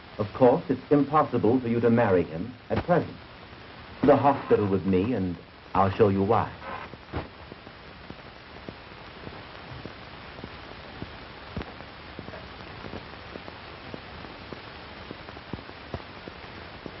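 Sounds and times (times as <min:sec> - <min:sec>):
film soundtrack hiss and crackles: 0:00.0 - 0:17.0.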